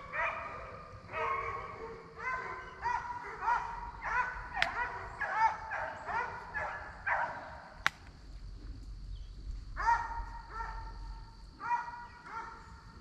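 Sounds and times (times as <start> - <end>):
hounds baying: 0.0 - 7.8, 9.7 - 13.0.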